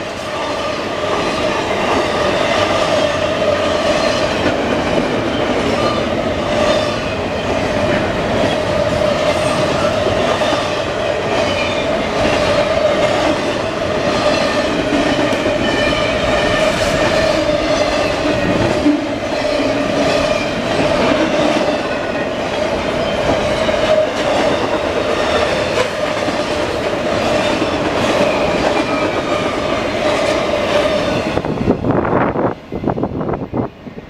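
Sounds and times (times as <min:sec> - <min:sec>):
freight train rail noise: 0:00.0 - 0:34.0.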